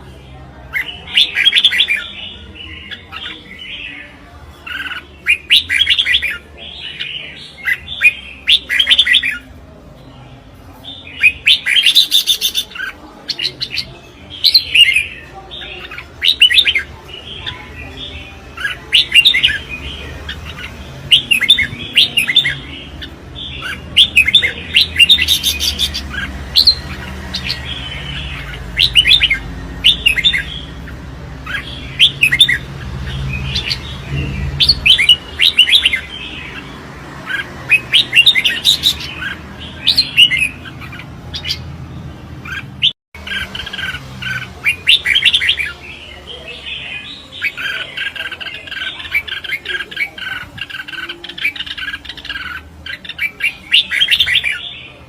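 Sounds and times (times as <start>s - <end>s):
birds singing warbling phrases: 0.0s - 55.0s.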